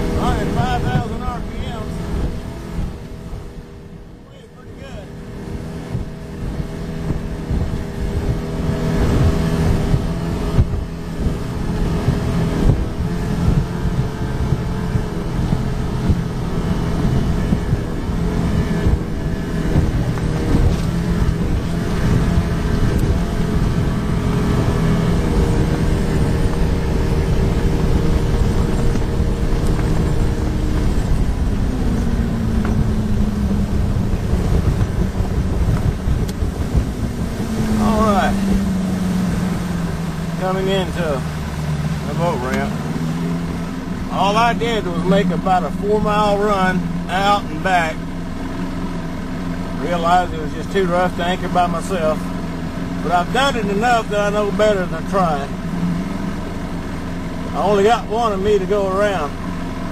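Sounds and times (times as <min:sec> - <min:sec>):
boat motor running fast: 0:00.0 - 0:59.9
hull pounding through waves: 0:00.0 - 0:59.9
wind rumble: 0:00.0 - 0:59.9.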